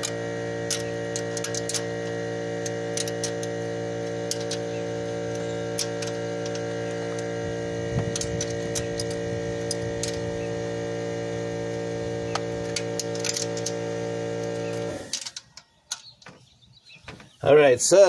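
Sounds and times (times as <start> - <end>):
electrical mains hum: 0.0 - 17.5.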